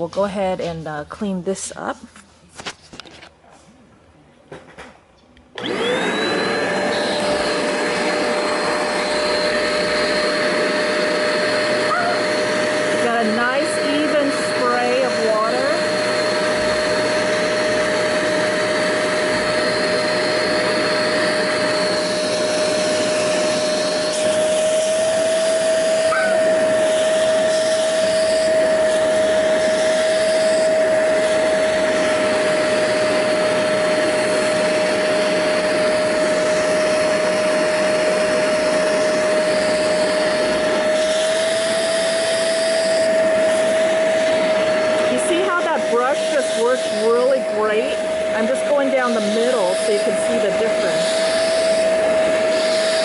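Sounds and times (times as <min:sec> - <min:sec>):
spot cleaner motor whining: 0:05.5 - 0:53.0
spraying and sucking rush: 0:07.0 - 0:53.0.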